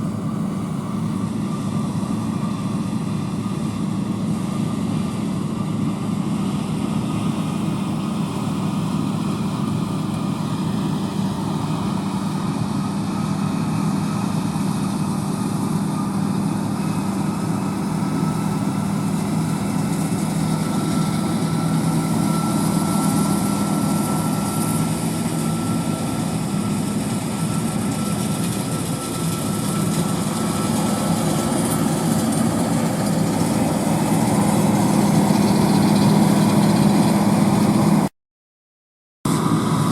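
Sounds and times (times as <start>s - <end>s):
combine harvester running: 0.0s - 38.1s, 39.3s - 39.9s.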